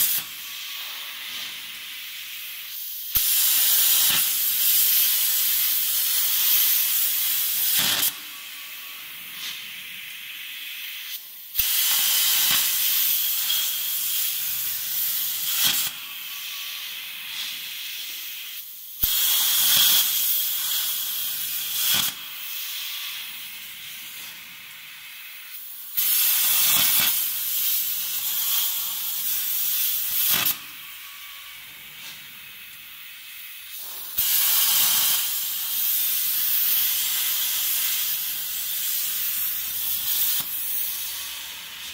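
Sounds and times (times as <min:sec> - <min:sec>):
sharp click of plasma torch: 0:00.0 - 0:08.3, 0:09.3 - 0:09.7, 0:10.6 - 0:24.4, 0:25.4 - 0:33.1, 0:33.7 - 0:41.9
plasma torch loud hiss: 0:00.0 - 0:41.9.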